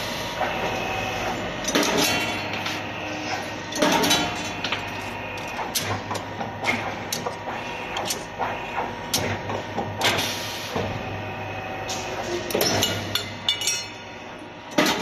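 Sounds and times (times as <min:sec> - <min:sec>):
machine motor humming: 0:00.0 - 0:13.4.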